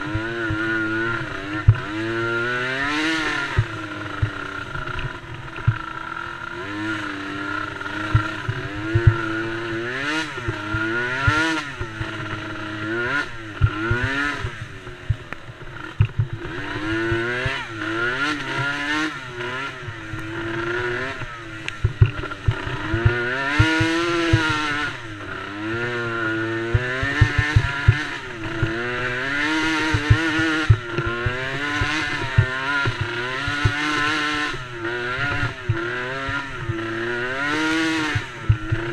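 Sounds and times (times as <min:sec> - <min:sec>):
small engines revving: 0:00.0 - 0:38.9.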